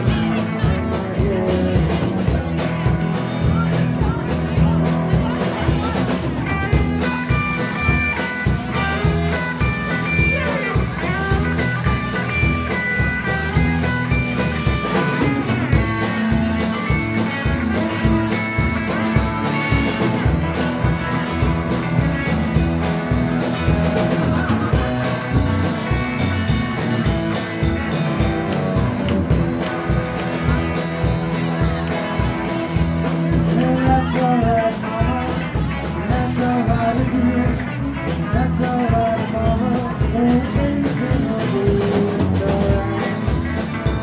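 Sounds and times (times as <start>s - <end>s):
drum kit beat: 0.0s - 44.0s
electric guitars: 0.0s - 44.0s.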